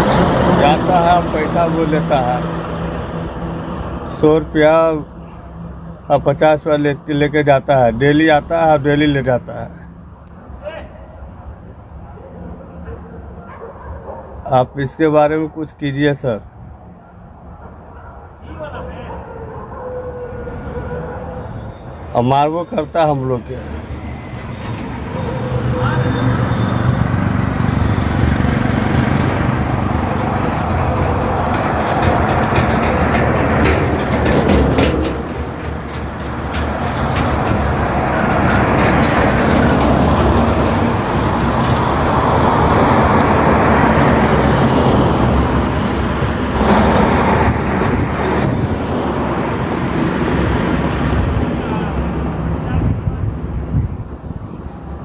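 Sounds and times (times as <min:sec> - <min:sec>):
heavy truck engines rumbling: 0:00.0 - 0:55.0
road traffic noise: 0:00.0 - 0:55.0.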